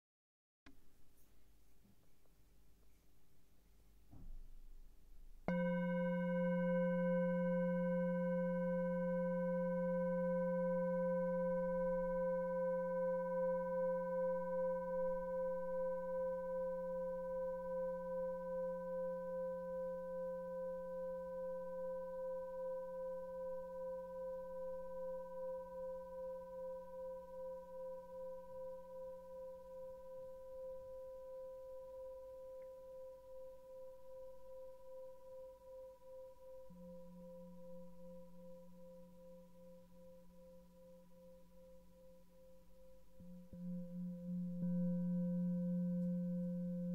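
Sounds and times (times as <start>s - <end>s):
singing bowl ringing: 5.5s - 46.9s.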